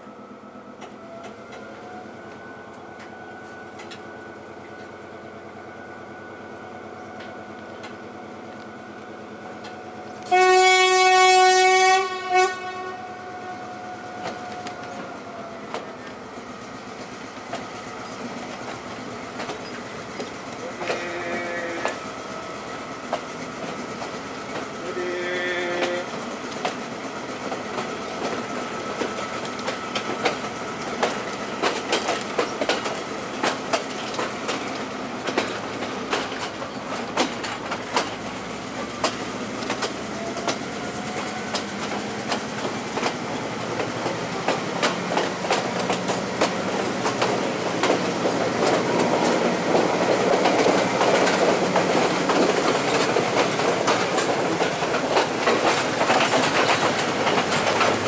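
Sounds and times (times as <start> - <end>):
train rumble: 0.0 - 58.0
train wheels clicking over rail joints: 2.3 - 5.0, 14.1 - 58.0.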